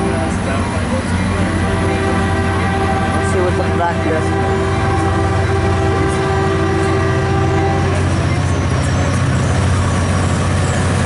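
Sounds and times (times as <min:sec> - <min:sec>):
diesel locomotive hum: 0:00.0 - 0:11.0
train cars rumbling over rails: 0:00.0 - 0:11.0.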